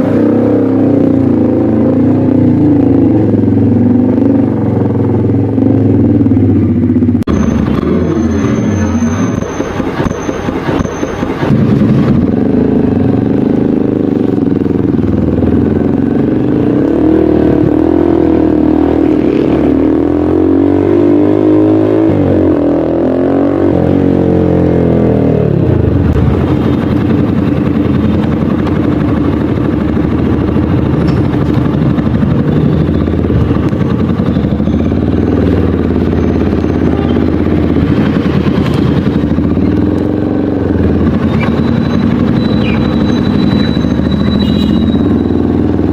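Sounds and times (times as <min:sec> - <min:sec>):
motorcycle engine revving and idling: 0:00.0 - 0:45.9.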